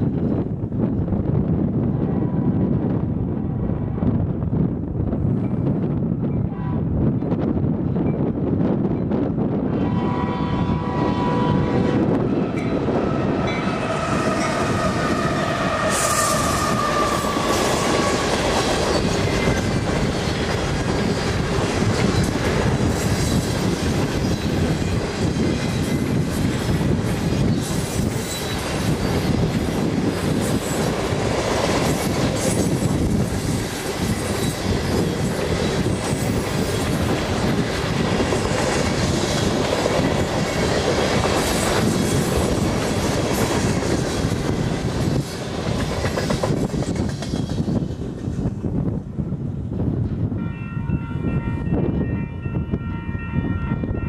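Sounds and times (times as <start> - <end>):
freight locomotives passing: 0.0 - 54.0
train cars rumbling: 0.0 - 54.0.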